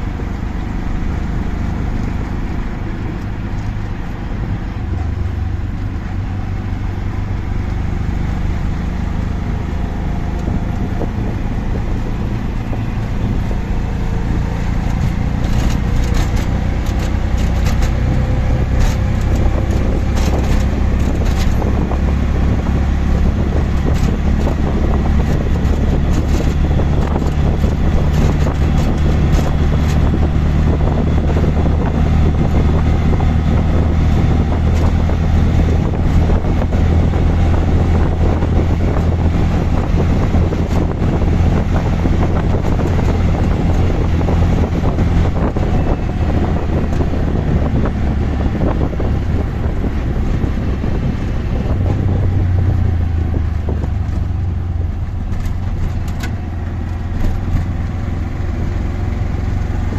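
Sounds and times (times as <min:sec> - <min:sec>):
auto rickshaw engine running: 0:00.0 - 0:59.9
road noise: 0:00.0 - 0:59.9
rattles and clicks: 0:10.2 - 0:58.4.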